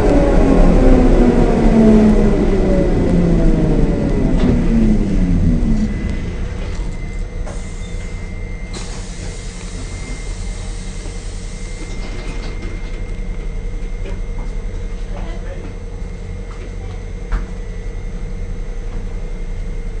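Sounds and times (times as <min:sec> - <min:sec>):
tram rolling on rails: 0:00.0 - 0:17.6
tram motors whining: 0:00.0 - 0:20.0.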